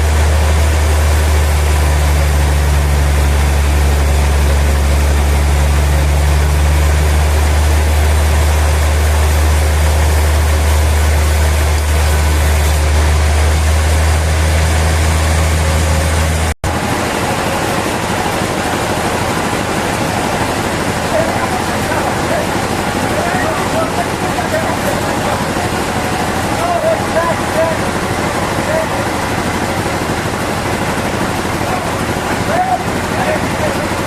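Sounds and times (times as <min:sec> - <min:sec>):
broad mechanical noise: 0:00.0 - 0:34.0
deep engine hum: 0:00.0 - 0:34.0.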